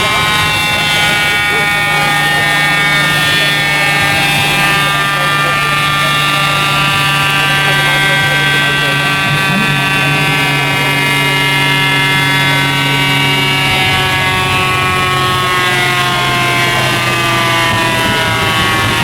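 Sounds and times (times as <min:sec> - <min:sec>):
turbocharged car engine running: 0:00.0 - 0:19.0.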